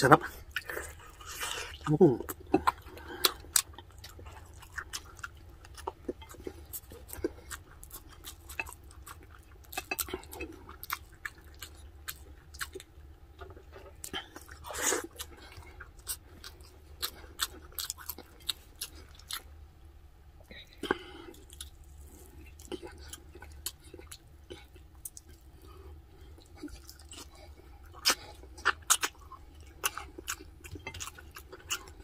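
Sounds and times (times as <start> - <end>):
close-up chewing: 0.0 - 19.5, 20.8 - 32.0.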